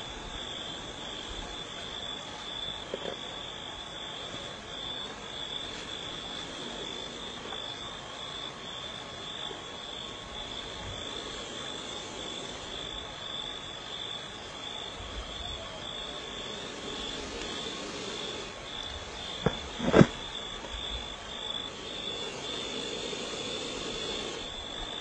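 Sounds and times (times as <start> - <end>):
insects and frogs calling: 0.0 - 25.0
even hiss: 4.3 - 25.0.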